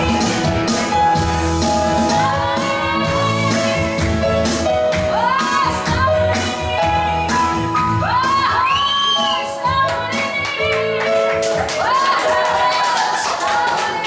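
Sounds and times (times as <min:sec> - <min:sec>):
instrumental accompaniment with bass: 0:00.0 - 0:12.0
woman singing pop song: 0:00.0 - 0:14.0.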